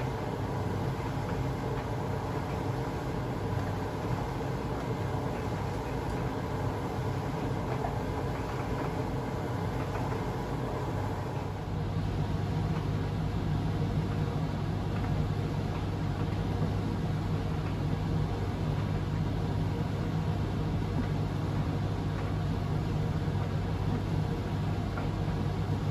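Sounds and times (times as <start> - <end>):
washing machine motor hum: 0.0 - 25.9.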